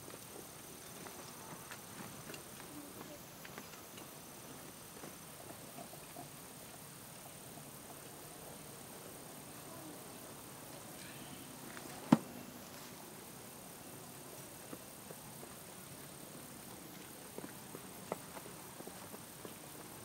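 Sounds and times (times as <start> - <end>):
high-pitched insect whine: 0.0 - 20.0.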